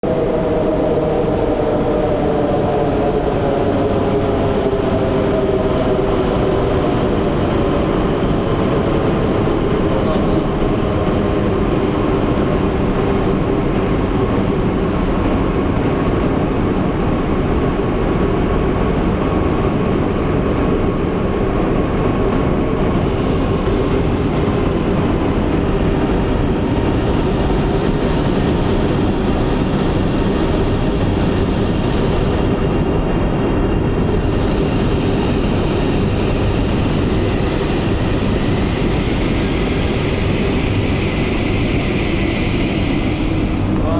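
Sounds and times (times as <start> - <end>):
electric train rumbling: 0.0 - 43.9.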